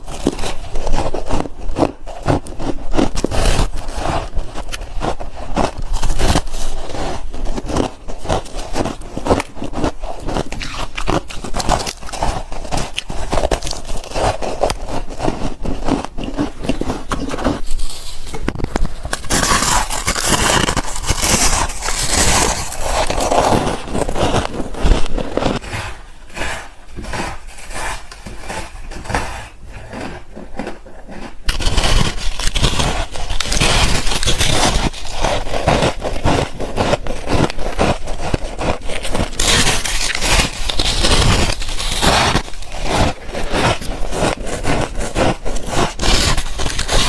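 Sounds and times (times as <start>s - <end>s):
crunching of frost bars: 0.0s - 47.0s.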